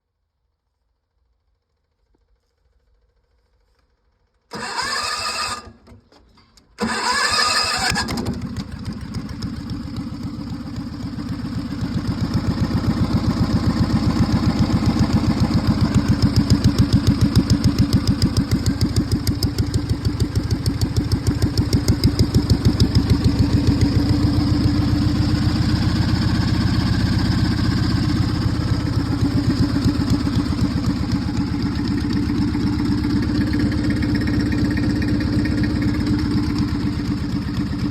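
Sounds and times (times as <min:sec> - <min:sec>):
lawn tractor engine running: 0:04.5 - 0:37.9
starter cranking engine: 0:04.5 - 0:37.9.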